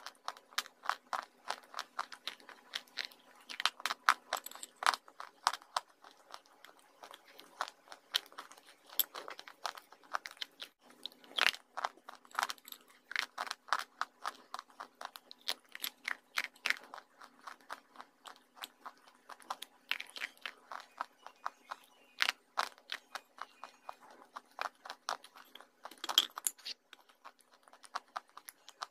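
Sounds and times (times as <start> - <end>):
crunchy biting and chewing: 0.0 - 26.1, 26.7 - 28.9.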